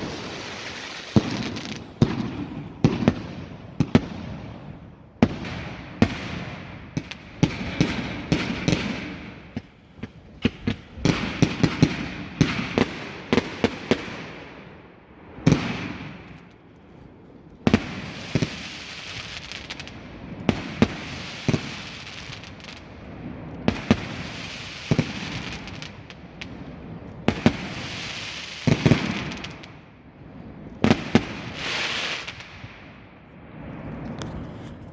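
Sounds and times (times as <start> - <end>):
firework bangs: 0.0 - 14.7, 15.3 - 16.5, 17.7 - 34.9
firework crackle: 0.0 - 34.9.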